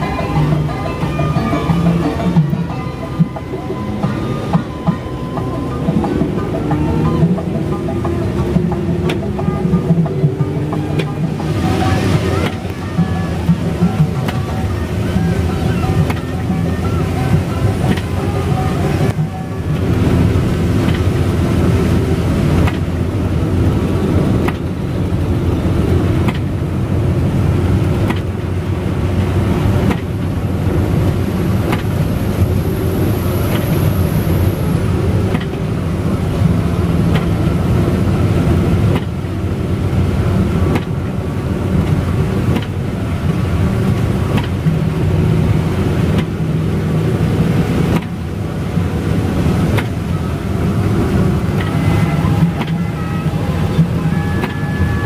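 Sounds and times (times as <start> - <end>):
bus engine drone: 0.0 - 55.0
rain: 0.0 - 55.0
road noise on wet highway: 0.0 - 55.0
windscreen wipers beating: 0.0 - 55.0.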